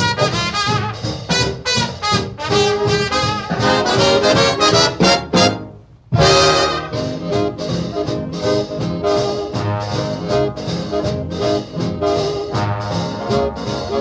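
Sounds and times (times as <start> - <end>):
big-band swing music with brass: 0.0 - 14.0.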